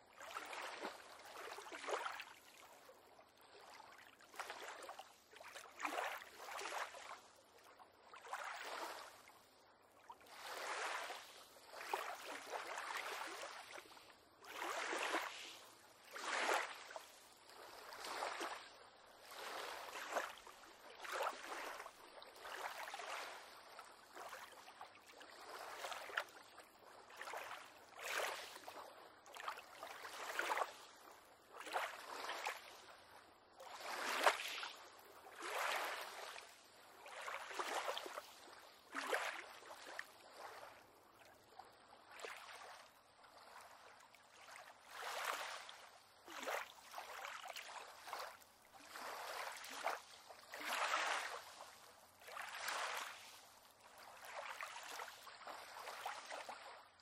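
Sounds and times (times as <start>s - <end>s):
small waves lapping against a pier: 0.0s - 57.0s.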